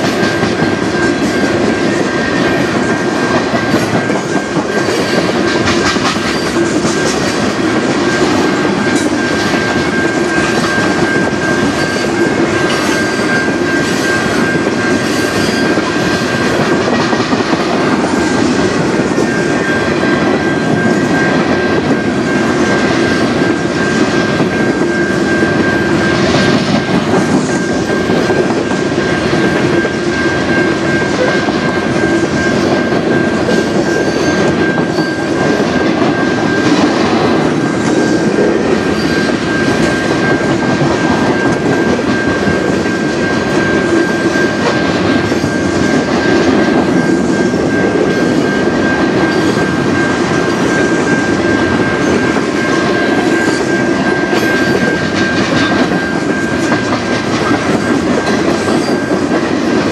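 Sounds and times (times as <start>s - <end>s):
crossing warning bell ringing: 0.0s - 59.9s
train wheels clacking over rail joints: 0.0s - 59.9s.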